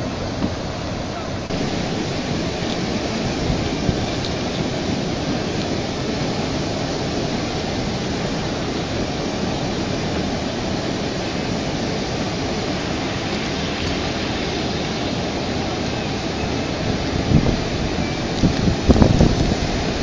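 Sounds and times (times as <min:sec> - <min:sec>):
flooded river rushing: 0:00.0 - 0:20.0.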